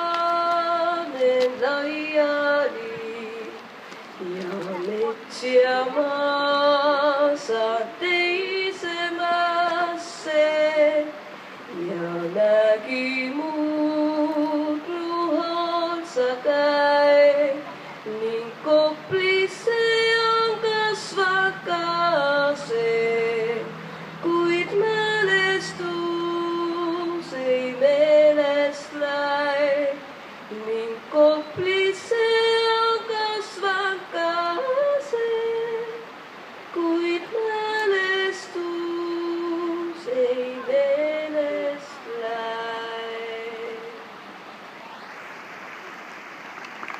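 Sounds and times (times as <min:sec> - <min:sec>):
woman singing folk song: 0:00.0 - 0:44.1.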